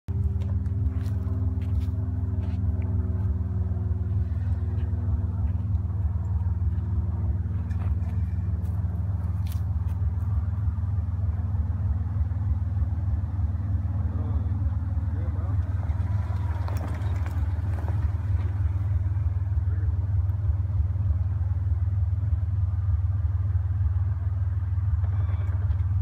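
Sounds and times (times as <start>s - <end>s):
suv engine running low: 0.1s - 26.0s.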